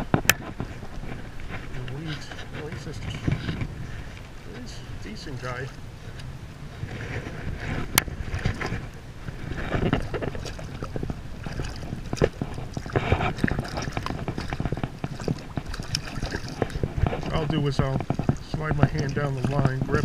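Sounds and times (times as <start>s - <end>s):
water splashing and sloshing: 0.0s - 20.0s
wind buffeting microphone: 0.0s - 20.0s.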